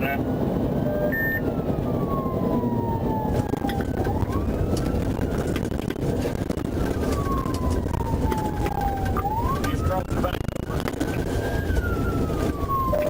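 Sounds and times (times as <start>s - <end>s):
engine and road noise: 0.0s - 13.0s
police siren wailing: 0.0s - 13.0s.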